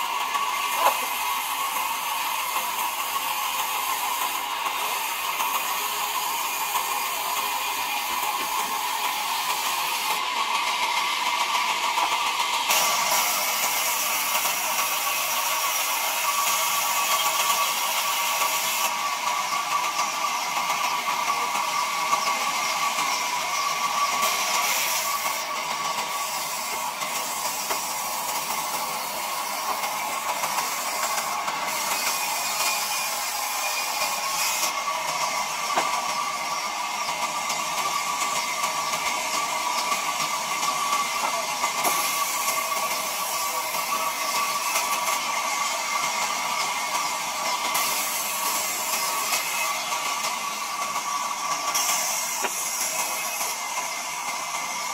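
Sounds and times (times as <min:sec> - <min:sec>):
band saw cutting a log: 0:00.0 - 0:54.9.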